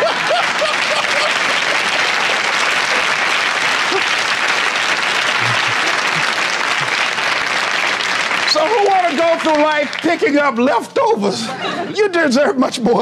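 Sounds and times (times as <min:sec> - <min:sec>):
studio audience applauding: 0:00.0 - 0:10.9.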